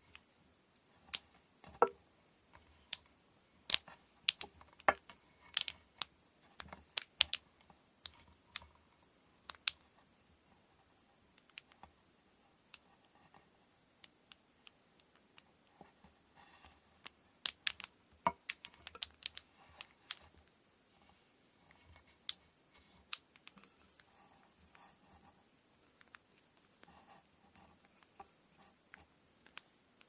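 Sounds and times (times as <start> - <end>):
hands tapping and clicking braiding gear: 0.0 - 9.9, 11.4 - 12.0, 12.7 - 20.6, 21.7 - 30.0.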